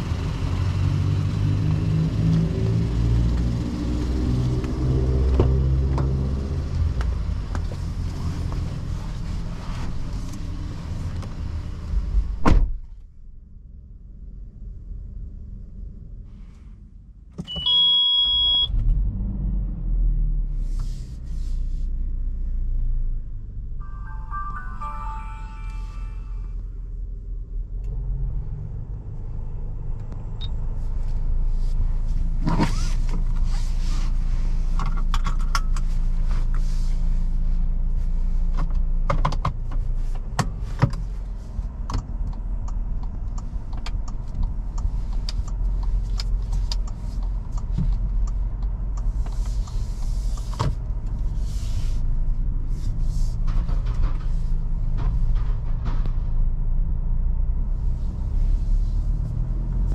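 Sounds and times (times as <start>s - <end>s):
car engine rumble: 0.0s - 59.9s
tyres on road: 0.0s - 59.9s.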